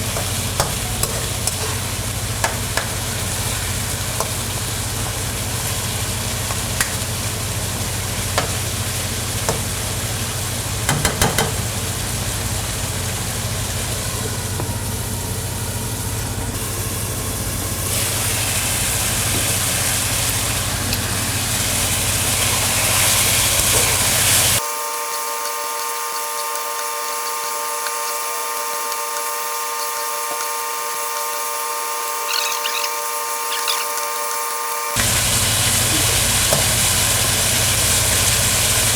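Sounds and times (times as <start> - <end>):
food sizzling in a pan: 0.0 - 15.1, 16.5 - 38.9.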